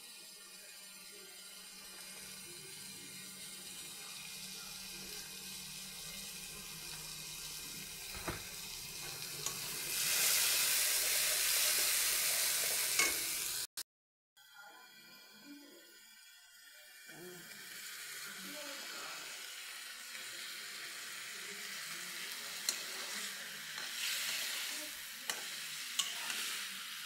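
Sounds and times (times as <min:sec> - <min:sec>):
liquid sizzling in hot oil: 0:00.0 - 0:13.7, 0:14.8 - 0:27.0
paste sizzling in hot oil: 0:00.0 - 0:13.7, 0:15.9 - 0:27.0.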